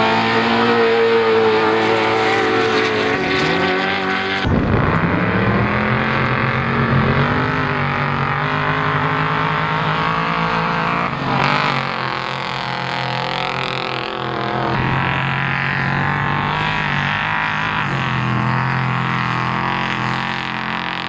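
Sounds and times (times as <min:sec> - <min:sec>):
engines revving high: 0:00.0 - 0:21.0.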